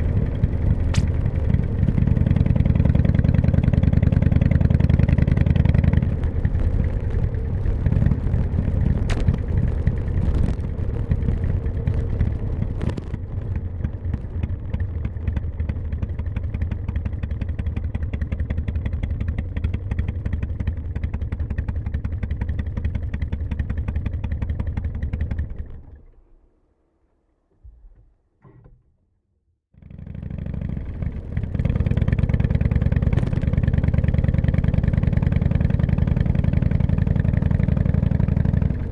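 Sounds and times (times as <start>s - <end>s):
motorcycle engine running: 0.0s - 26.1s, 29.8s - 38.9s.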